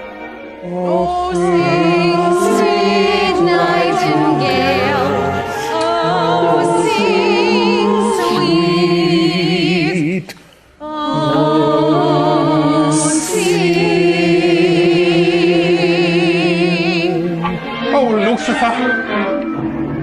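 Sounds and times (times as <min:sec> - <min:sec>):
voices singing in harmony: 0:00.0 - 0:20.0.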